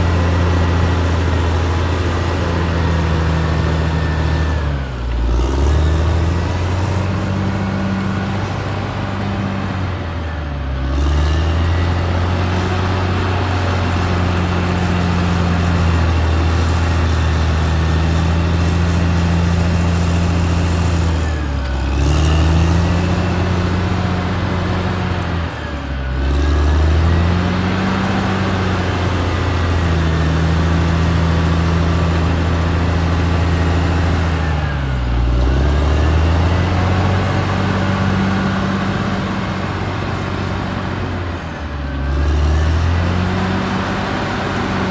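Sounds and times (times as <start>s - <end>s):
bulldozer diesel engine: 0.0s - 44.9s.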